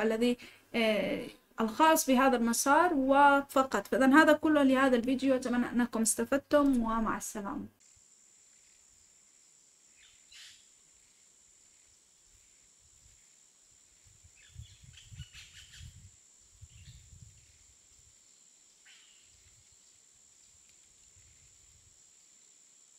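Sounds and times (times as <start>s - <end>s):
faint hiss with high whine: 0.0s - 22.9s.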